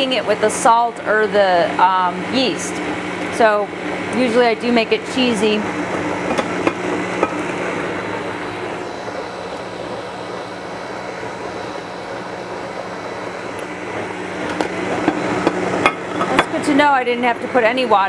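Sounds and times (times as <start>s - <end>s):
blender motor running: 0.0s - 18.0s.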